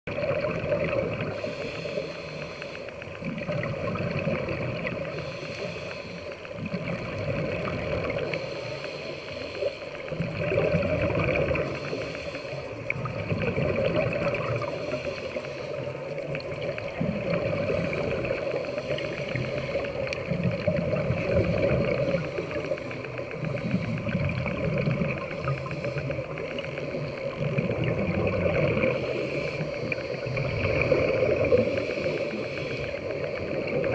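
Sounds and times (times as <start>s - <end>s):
muffled underwater hum: 0.1s - 33.9s.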